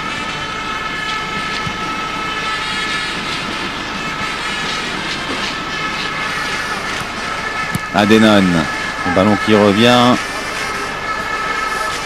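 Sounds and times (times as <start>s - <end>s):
drone of many horns: 0.0s - 12.0s
stadium crowd noise: 0.0s - 12.0s.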